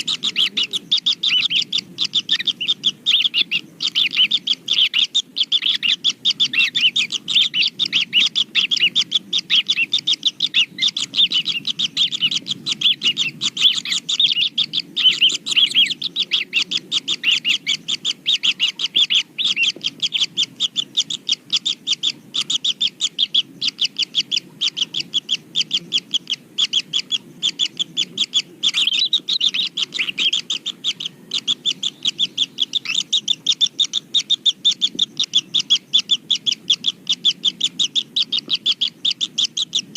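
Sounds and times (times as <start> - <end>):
nestlings chirping: 0.0 - 39.9.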